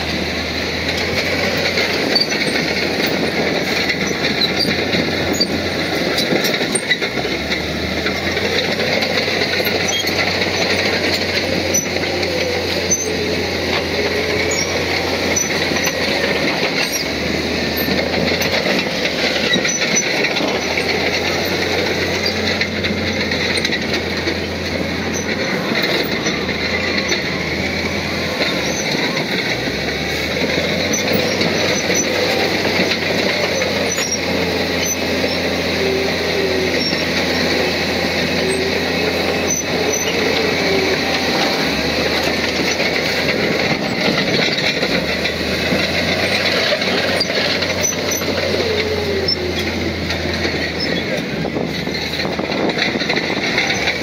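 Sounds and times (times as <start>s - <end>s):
bulldozer engine and tracks running: 0.0s - 54.0s.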